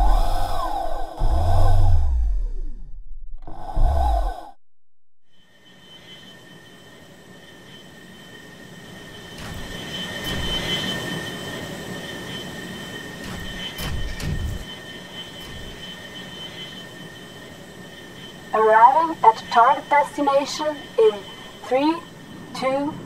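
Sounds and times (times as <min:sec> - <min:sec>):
high-pitched thruster whine: 0:00.0 - 0:04.6, 0:05.3 - 0:23.0.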